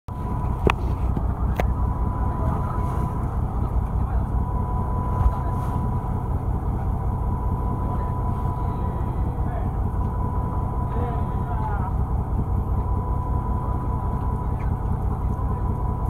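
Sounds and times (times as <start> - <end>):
boat engine rumbling with whine: 0.1 - 16.0.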